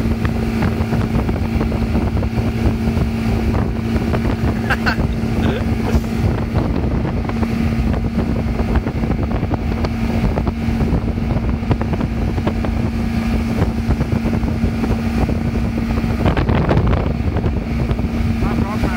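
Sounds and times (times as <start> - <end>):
outboard motor running: 0.0 - 18.9
rushing boat wake: 0.0 - 18.9.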